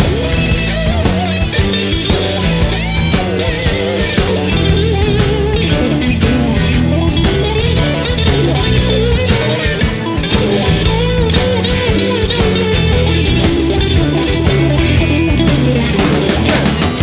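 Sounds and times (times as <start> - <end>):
bass: 0.0 - 17.0
drums keeping a steady beat: 0.0 - 17.0
electric guitar lead line: 0.0 - 17.0.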